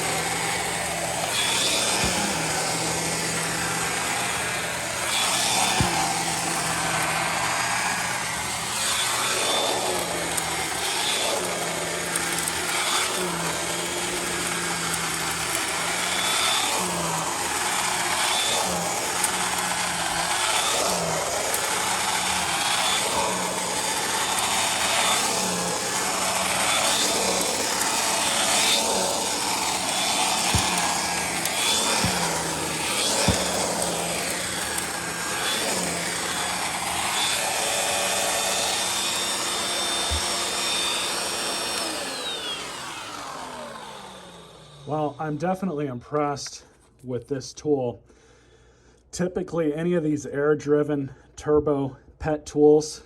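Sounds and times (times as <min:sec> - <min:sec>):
vacuum cleaner tool whirring: 0:00.0 - 0:45.4.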